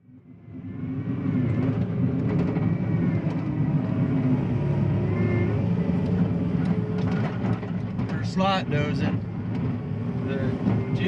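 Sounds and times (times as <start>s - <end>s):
diesel engine running: 0.2s - 11.0s.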